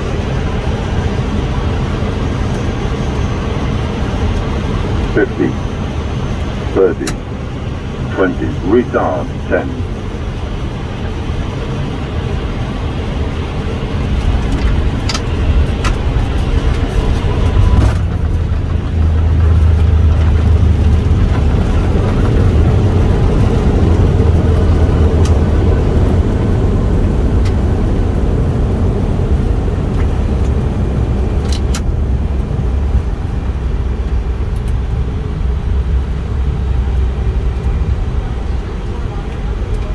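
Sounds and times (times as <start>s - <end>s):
airliner rumble on runway: 0.0s - 39.9s.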